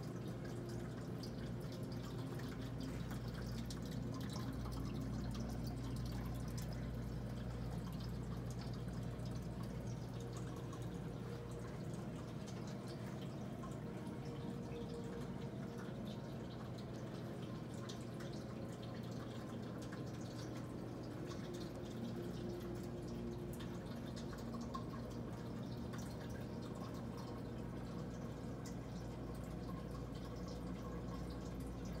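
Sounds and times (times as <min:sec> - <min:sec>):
water dripping and trickling: 0:00.0 - 0:32.0.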